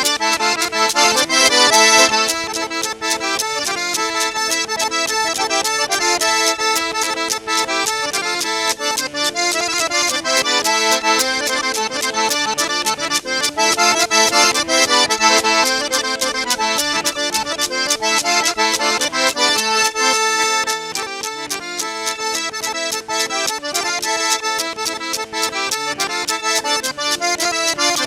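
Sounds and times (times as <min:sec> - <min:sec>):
accordion dance music: 0:00.0 - 0:28.0
sharp percussive strikes: 0:00.0 - 0:28.0.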